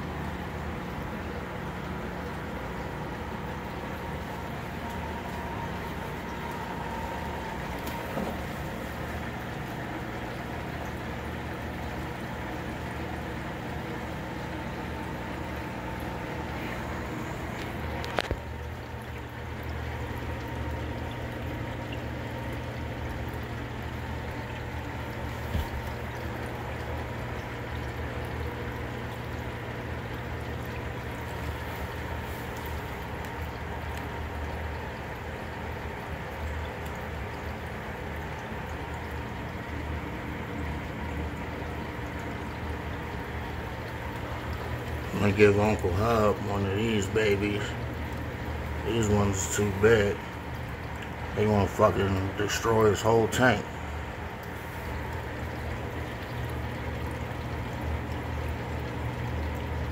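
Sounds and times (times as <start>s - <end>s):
aquarium filters humming: 0.0s - 59.9s
water trickling and splashing: 0.0s - 59.9s.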